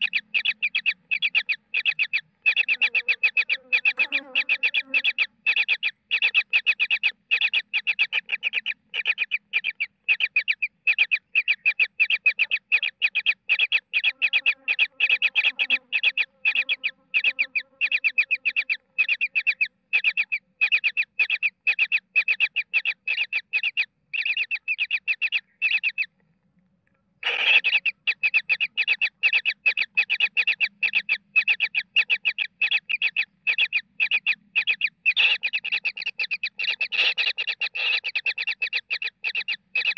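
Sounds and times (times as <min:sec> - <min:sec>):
kingfisher chicks harsh begging calls: 0:00.0 - 0:21.0, 0:27.2 - 0:39.9.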